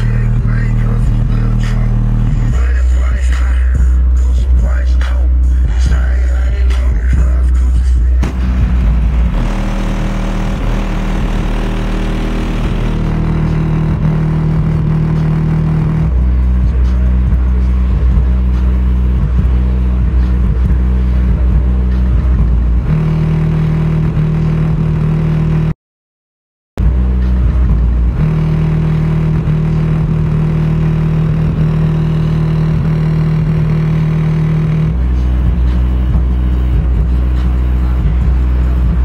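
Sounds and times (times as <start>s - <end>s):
bass-heavy hip-hop music: 0.0s - 25.7s, 26.8s - 39.0s.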